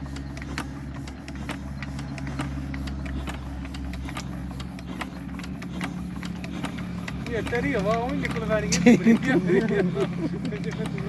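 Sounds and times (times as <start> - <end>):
diesel engine knocking: 0.0 - 11.0.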